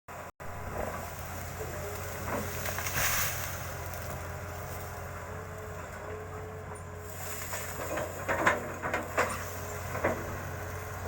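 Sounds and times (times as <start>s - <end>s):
excavator engine running: 0.1s - 11.0s.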